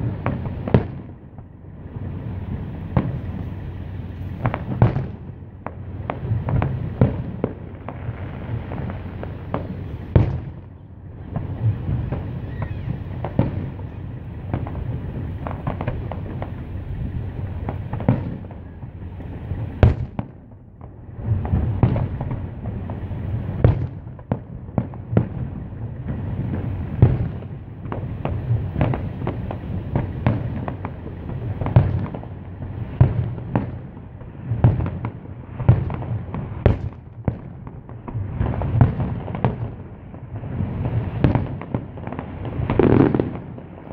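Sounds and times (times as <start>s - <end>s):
firework shells bursting: 0.0s - 43.9s
rumbling echo: 0.0s - 43.9s.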